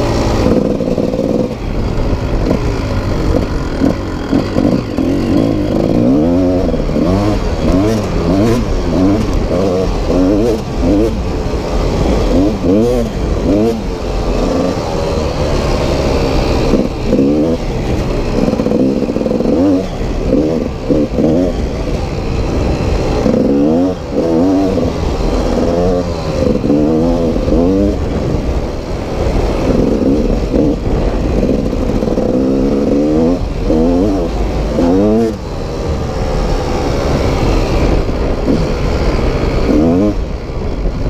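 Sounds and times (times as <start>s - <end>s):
dirt bike engine revving: 0.0s - 40.4s.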